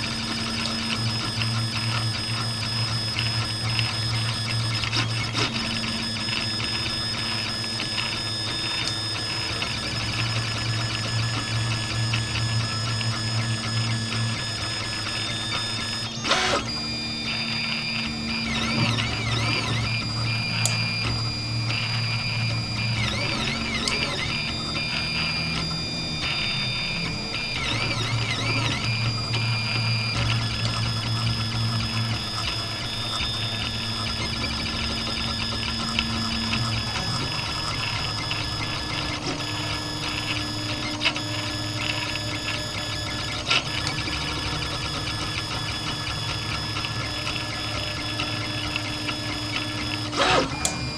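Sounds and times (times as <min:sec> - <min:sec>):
stepper motors whining: 0:00.0 - 0:50.9.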